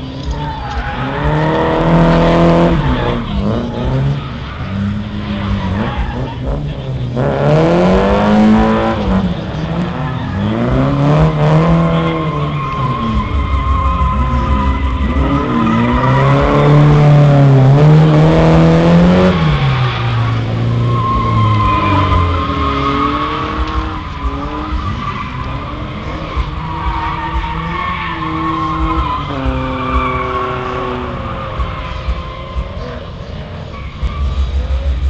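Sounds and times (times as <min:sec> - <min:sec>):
tyres squealing: 0:00.0 - 0:34.7
car engine revving: 0:00.0 - 0:35.0.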